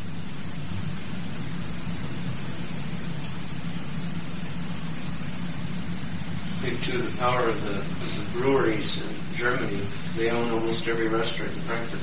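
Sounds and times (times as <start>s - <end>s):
low hum: 0.0s - 12.0s
tape hiss: 0.0s - 12.0s.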